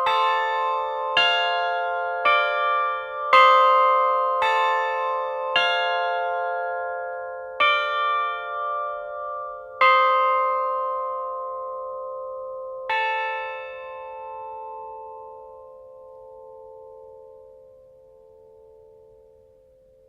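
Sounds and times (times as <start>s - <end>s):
church bells ringing: 0.0s - 19.7s.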